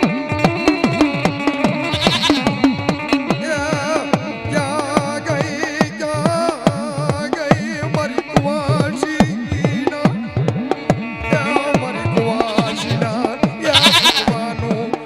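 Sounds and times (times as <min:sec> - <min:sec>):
hand drum with bending pitch: 0:00.0 - 0:15.0.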